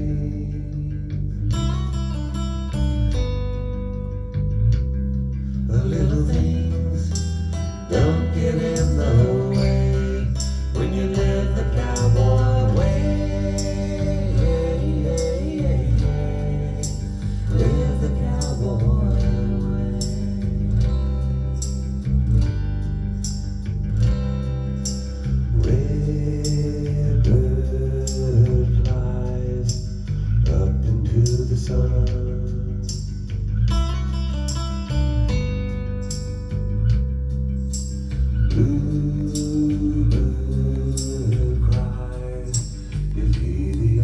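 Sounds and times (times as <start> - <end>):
heavy bass beat: 0.0 - 44.0
song with singing and guitar: 0.0 - 44.0.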